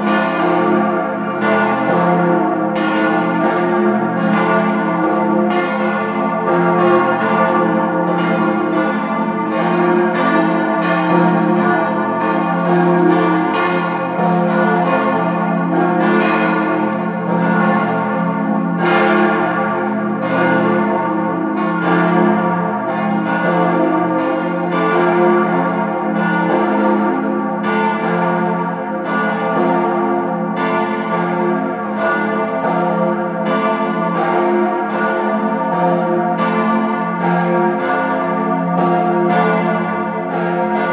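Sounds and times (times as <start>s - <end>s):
church bells ringing in peal: 0.0s - 40.9s.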